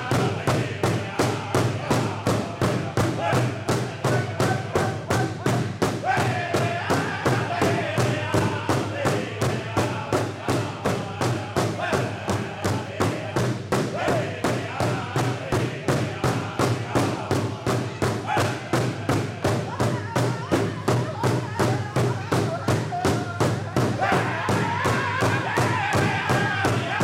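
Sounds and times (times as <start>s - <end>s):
men singing together: 0.0s - 21.0s, 22.0s - 27.0s
large drum beating: 0.0s - 27.0s.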